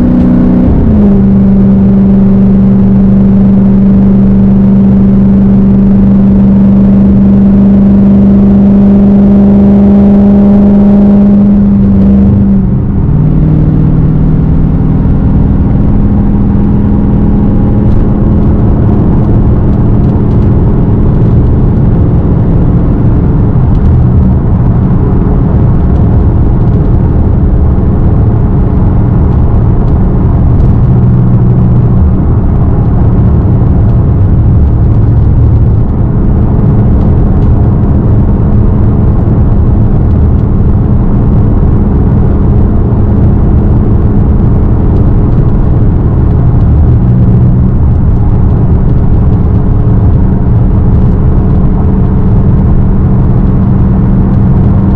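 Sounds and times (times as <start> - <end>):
loud car exhaust while driving: 0.0 - 54.9.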